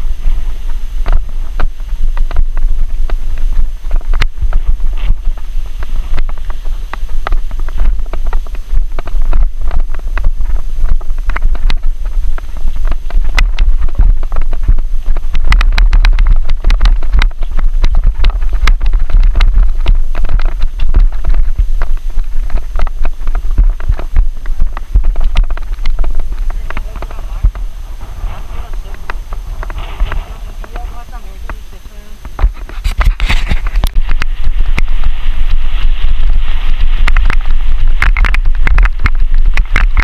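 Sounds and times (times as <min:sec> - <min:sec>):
bike rattling and clicking: 0:00.0 - 0:31.6, 0:32.2 - 0:40.0
wind buffeting microphone: 0:00.0 - 0:40.0.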